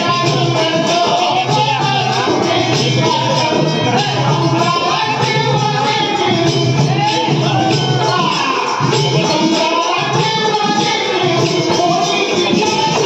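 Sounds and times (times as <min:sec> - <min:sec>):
group singing devotional song: 0:00.0 - 0:13.0
jingling metallic percussion: 0:00.0 - 0:13.0.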